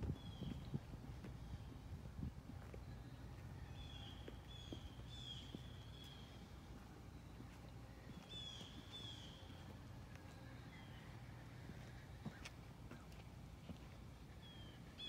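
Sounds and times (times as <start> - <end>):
faint low rumble: 0.0 - 15.0
songbird calling: 0.1 - 1.7, 2.8 - 13.2, 14.3 - 15.0.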